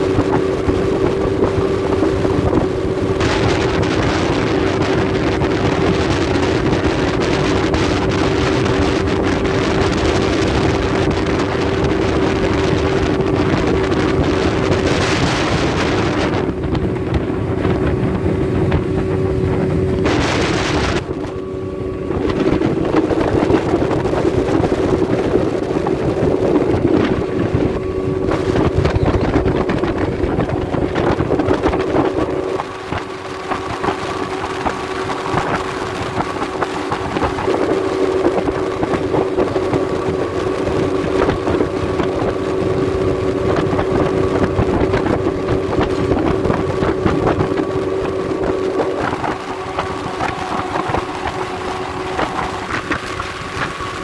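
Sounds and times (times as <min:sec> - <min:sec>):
outboard motor running: 0:00.0 - 0:54.0
wind rushing over microphone: 0:00.0 - 0:54.0.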